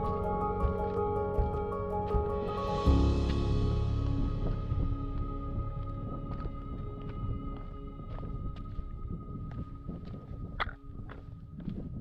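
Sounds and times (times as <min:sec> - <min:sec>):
footsteps on a trail: 0:00.0 - 0:12.0
low rumble: 0:00.0 - 0:12.0.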